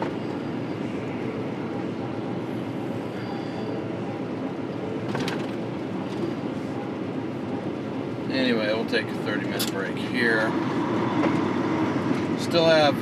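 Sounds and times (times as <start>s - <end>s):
truck diesel engine rumble: 0.0s - 13.0s.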